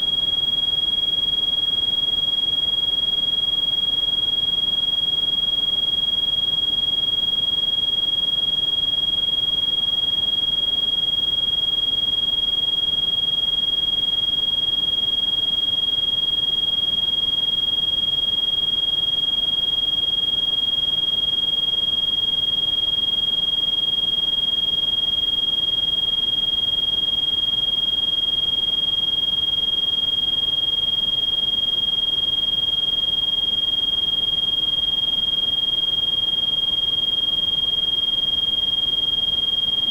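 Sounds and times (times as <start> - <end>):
high-pitched electronic sine tone: 0.0 - 39.9.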